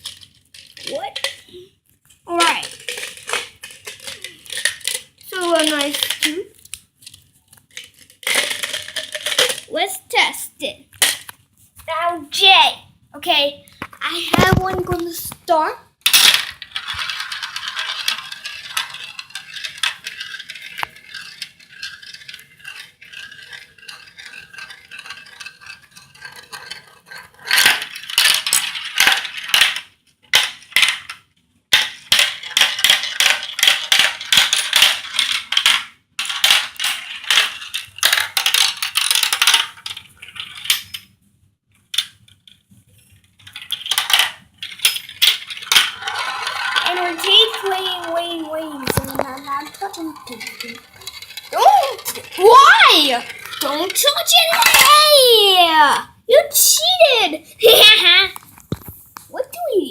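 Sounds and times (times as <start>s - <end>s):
marbles rattling through plastic track: 0.0s - 9.8s, 16.0s - 41.1s, 41.9s - 42.6s, 43.3s - 58.9s.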